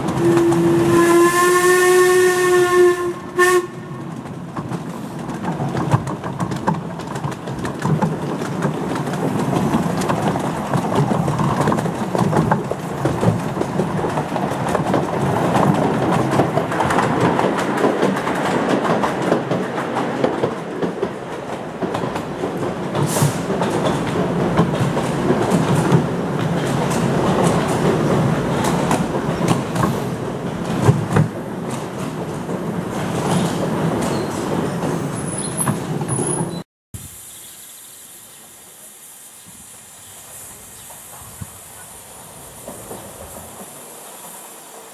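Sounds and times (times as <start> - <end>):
train wheels clacking on track: 0.0 - 36.6, 40.2 - 44.9.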